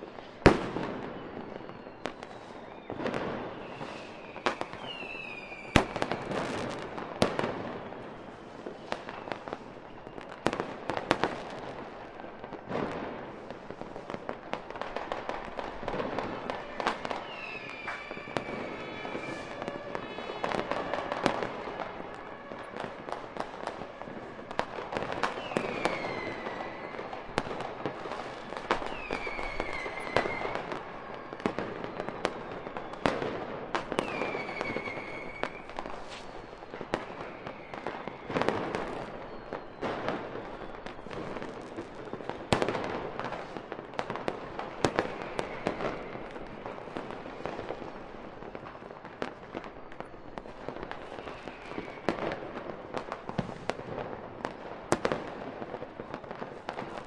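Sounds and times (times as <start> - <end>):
falling firework whistles: 0.0 - 57.0
fireworks bangs and crackling: 0.0 - 57.0.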